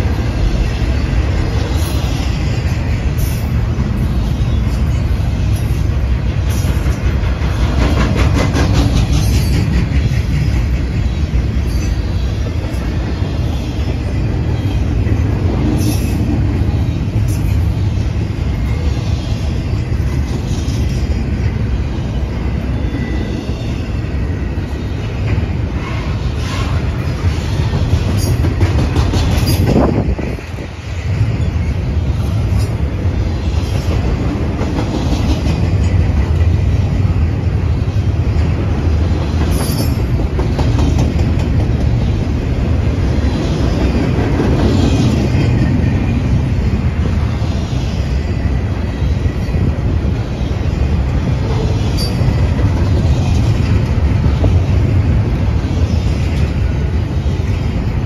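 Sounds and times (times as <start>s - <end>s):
rail cars clattering: 0.0s - 58.0s
steel wheels rumbling on rail: 0.0s - 58.0s.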